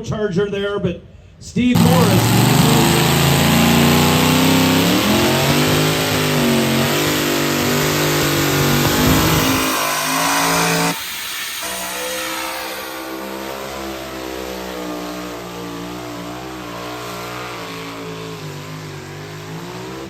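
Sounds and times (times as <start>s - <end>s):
diesel truck engine revving: 1.8s - 20.0s.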